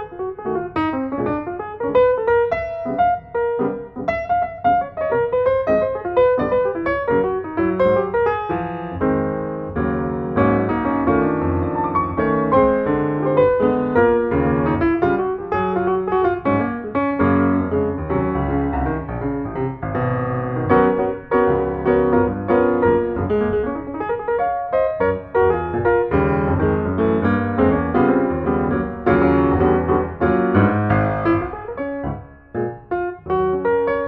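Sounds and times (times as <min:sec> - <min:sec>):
piano music: 0:00.0 - 0:34.0.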